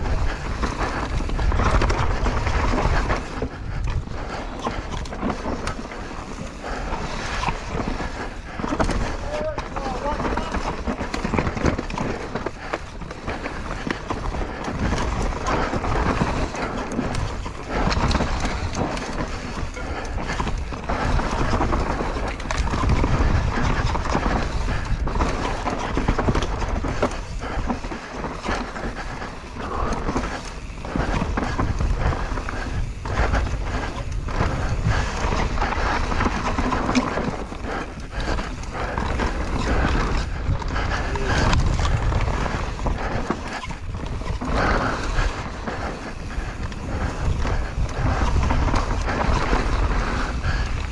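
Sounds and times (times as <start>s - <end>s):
bike knocks and rattles: 0.0s - 50.9s
bike tyres on loose dirt: 0.0s - 50.9s.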